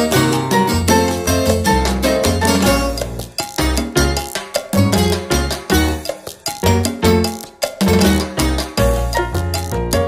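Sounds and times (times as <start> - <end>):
upbeat salsa music: 0.0 - 10.0.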